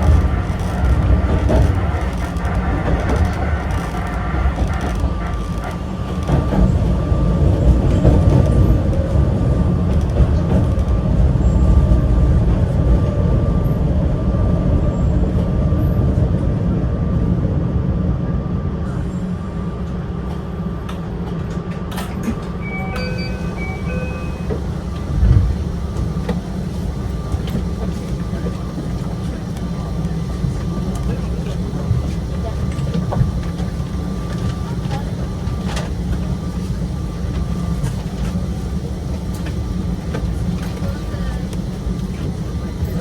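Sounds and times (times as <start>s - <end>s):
electric railcar rumbling: 0.0s - 43.0s.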